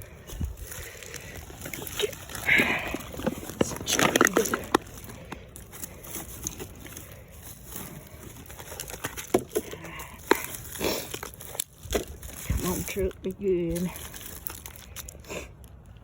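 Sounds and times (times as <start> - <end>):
digging by hand through dirt: 0.0 - 16.0.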